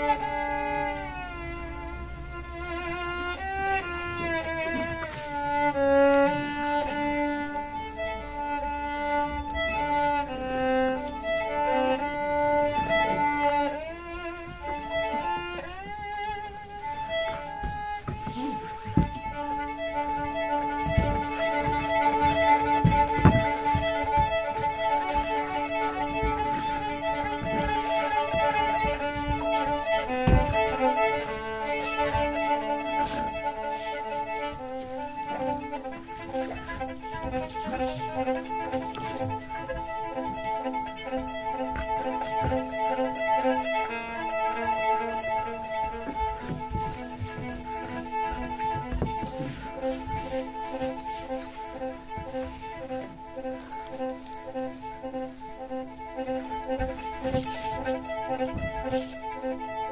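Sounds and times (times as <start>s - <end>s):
dull low thumps: 0.0s - 59.9s
solo violin melody: 0.0s - 59.9s.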